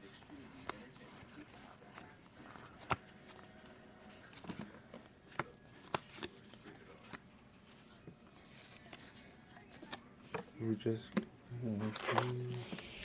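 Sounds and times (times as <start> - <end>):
faint card rustling: 0.0 - 13.0.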